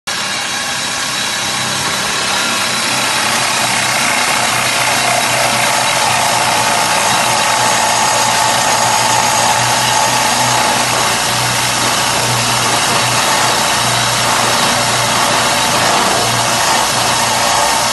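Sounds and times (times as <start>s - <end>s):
drill bit cutting spinning wood: 0.1s - 17.9s
lathe motor hum: 0.1s - 17.9s.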